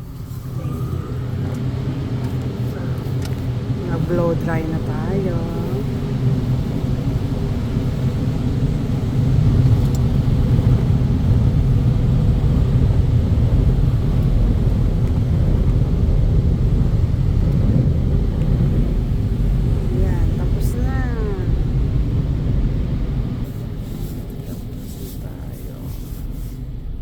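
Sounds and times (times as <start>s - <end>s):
car wash blowers blasting air: 0.0s - 27.0s.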